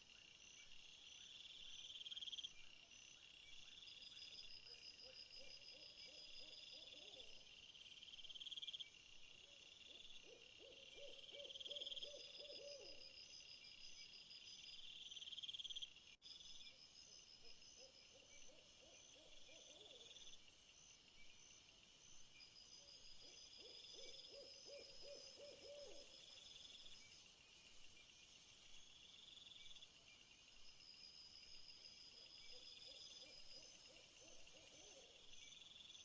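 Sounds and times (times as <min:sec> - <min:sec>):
insects chirping and trilling: 0:00.0 - 0:36.0.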